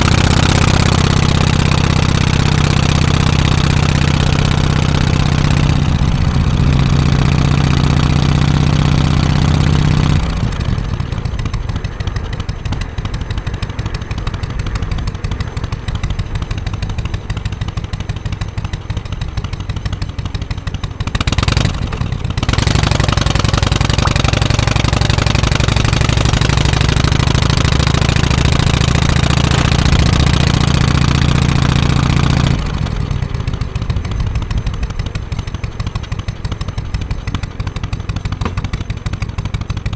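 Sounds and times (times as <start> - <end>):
motorcycle exhaust while riding: 0.0 - 39.9.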